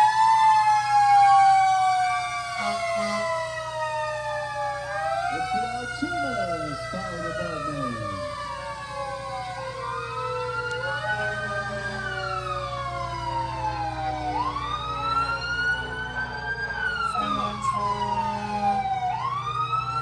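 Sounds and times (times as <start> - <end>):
faint second siren: 0.0 - 20.0
fire truck siren wailing: 0.0 - 20.0
steady low hum: 2.5 - 20.0.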